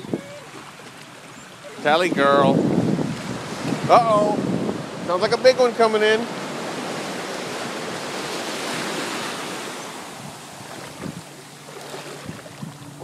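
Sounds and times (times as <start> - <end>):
ocean wave washing up beach: 0.3 - 13.0.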